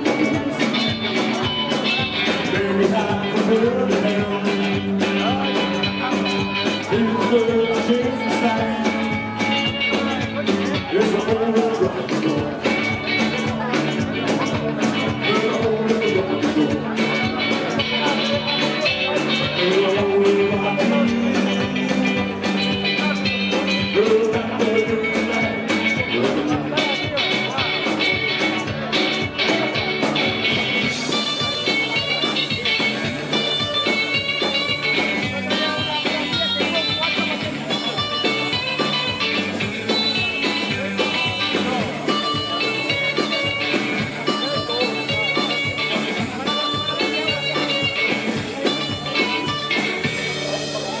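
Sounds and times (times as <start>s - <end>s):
rock and roll band playing: 0.0s - 51.0s.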